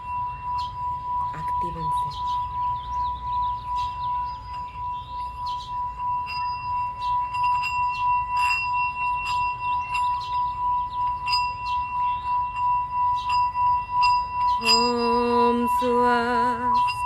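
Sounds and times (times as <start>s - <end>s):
singing bowl ringing tone: 0.0s - 17.0s.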